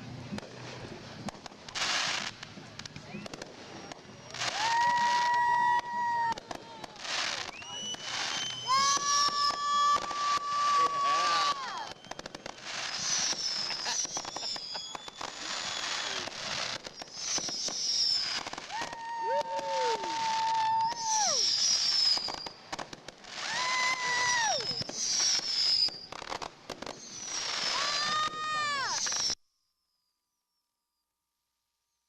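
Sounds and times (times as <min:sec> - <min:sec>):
fireworks crackling bursts: 0:00.0 - 0:29.4
long steady fireworks whistle: 0:00.1 - 0:30.6
fireworks whistles sliding down: 0:01.2 - 0:30.1.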